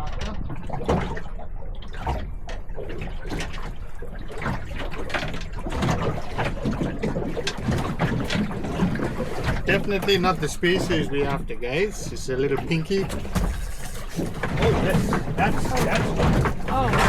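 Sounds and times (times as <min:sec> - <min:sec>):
water splashing against boat hull: 0:00.0 - 0:17.0.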